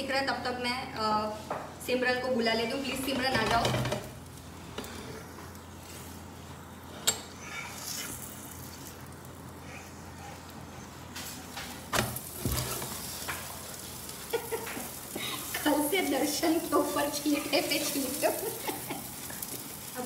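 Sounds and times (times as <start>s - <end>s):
paratha sizzling on a pan: 2.6s - 20.0s.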